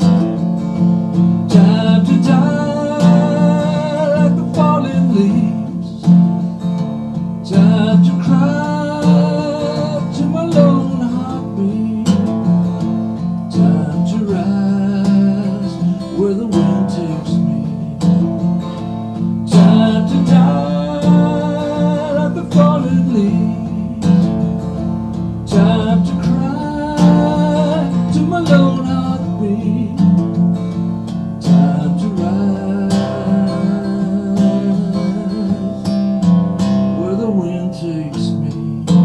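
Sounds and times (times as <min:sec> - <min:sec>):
acoustic guitar strumming: 0:00.0 - 0:39.0
man singing wordlessly: 0:01.1 - 0:06.6, 0:07.4 - 0:39.0.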